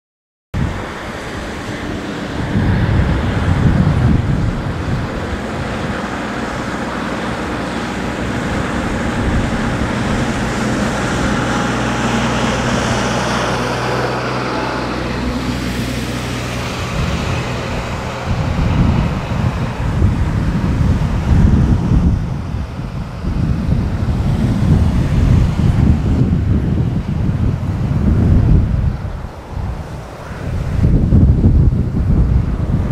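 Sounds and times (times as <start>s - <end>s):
distant engines rumbling: 0.6s - 32.9s
wind buffeting microphone: 0.6s - 32.9s.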